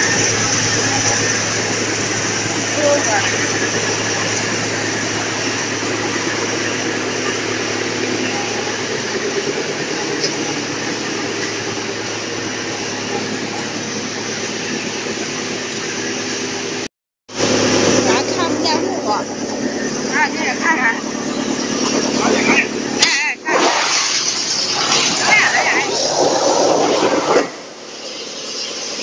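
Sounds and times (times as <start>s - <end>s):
wood chipper droning: 0.0s - 29.0s.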